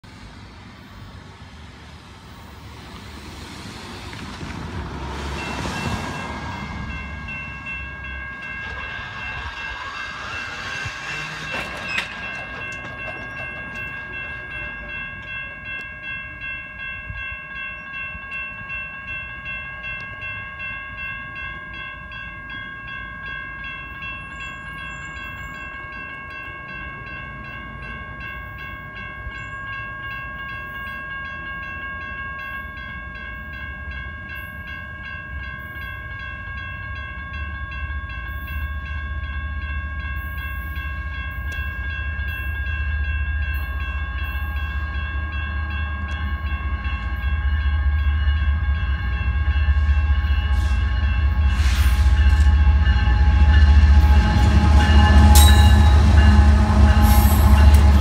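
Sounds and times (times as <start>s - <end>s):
traffic noise: 0.0s - 58.0s
railroad crossing bells ringing: 0.6s - 58.0s.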